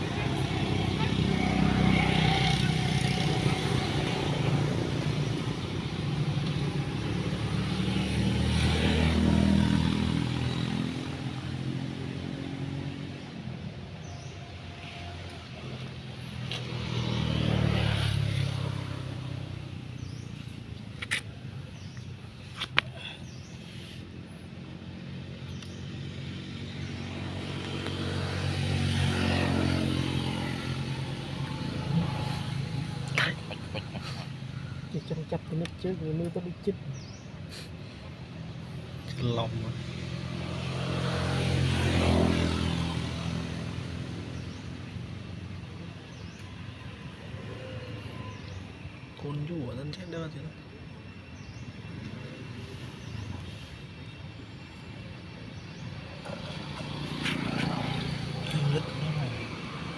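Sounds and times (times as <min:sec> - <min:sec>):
passing vehicle engine drone: 0:00.0 - 0:13.7, 0:15.1 - 0:20.2, 0:23.7 - 0:36.6, 0:39.0 - 0:48.5, 0:51.8 - 0:59.9.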